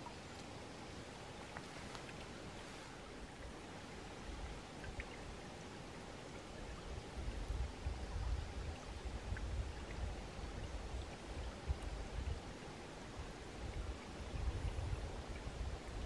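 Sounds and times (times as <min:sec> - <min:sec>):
brook trickling over stones: 0:00.0 - 0:16.0.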